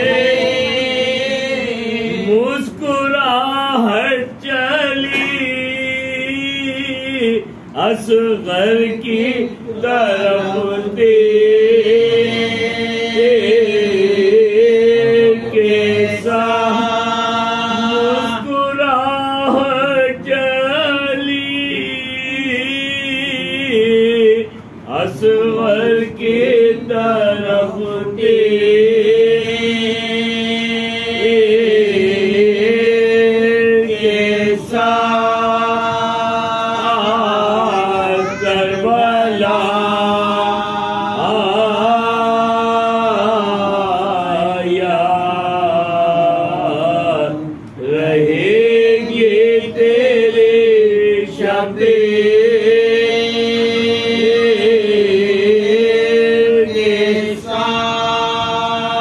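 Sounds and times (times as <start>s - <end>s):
men chanting in unison: 0.0s - 59.0s.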